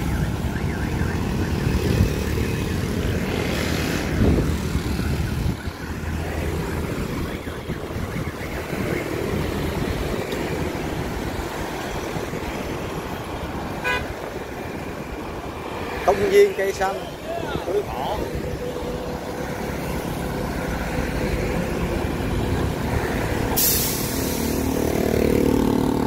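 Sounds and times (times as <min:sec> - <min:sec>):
motorbike and truck engines: 0:00.0 - 0:26.0.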